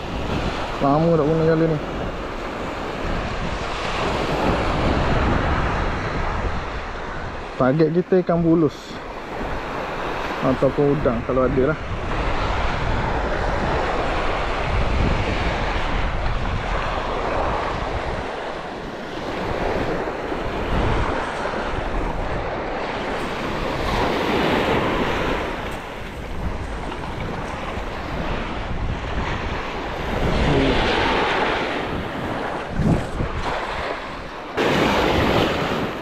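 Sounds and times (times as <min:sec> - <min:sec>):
surf washing onto beach: 0:00.0 - 0:36.0
wind buffeting microphone: 0:00.0 - 0:36.0.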